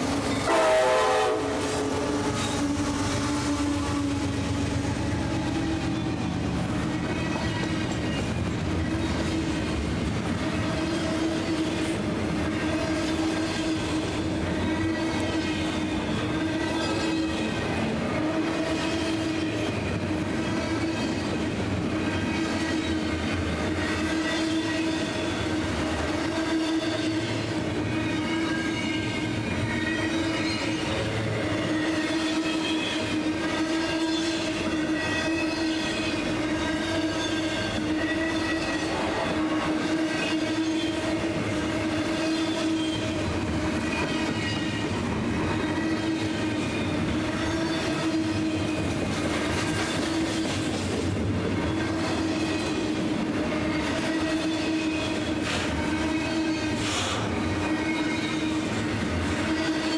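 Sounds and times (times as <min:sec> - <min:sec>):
freight train rolling past: 0:00.0 - 0:59.9
wheels whining on rails: 0:00.0 - 0:59.9.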